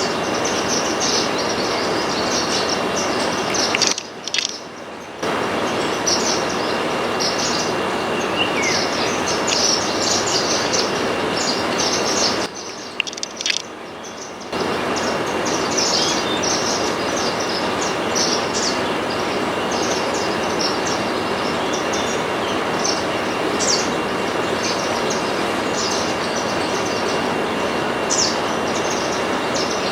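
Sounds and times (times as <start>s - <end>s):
finches chirping: 0.0s - 29.9s.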